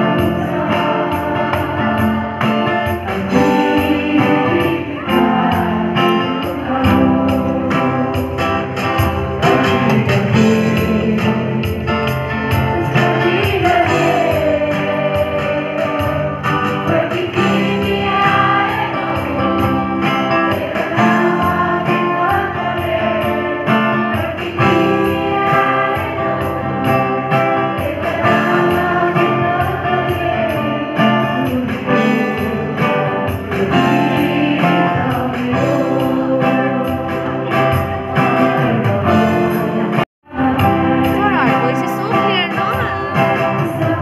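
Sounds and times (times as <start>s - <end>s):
person singing into microphone: 0.0s - 44.0s
strummed acoustic guitars: 0.0s - 44.0s.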